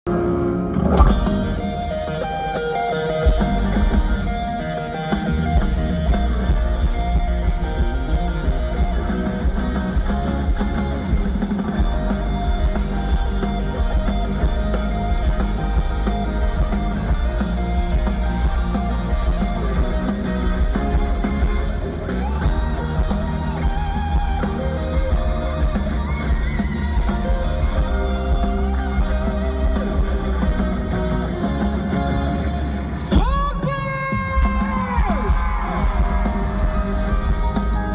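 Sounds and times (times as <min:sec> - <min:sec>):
electric guitar: 0:00.1 - 0:37.9
rock band playing: 0:00.1 - 0:37.9.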